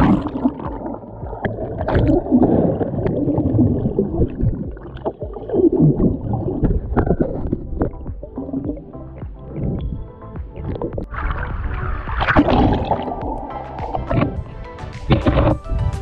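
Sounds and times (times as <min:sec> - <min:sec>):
underwater sloshing and gurgling: 0:00.0 - 0:15.8.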